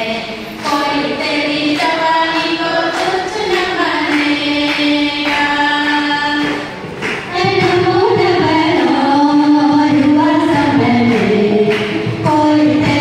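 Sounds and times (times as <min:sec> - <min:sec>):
women's choir singing: 0:00.0 - 0:13.0.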